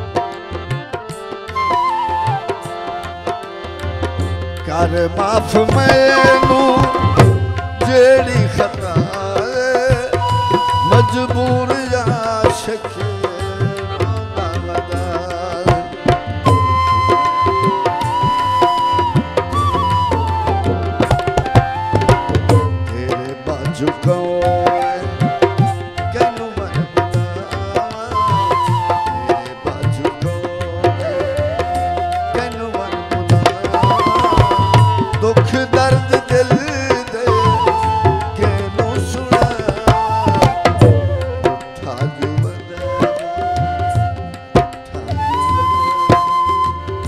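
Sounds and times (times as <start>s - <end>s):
harmonium melody: 0.0s - 47.0s
tabla strokes: 0.0s - 47.0s.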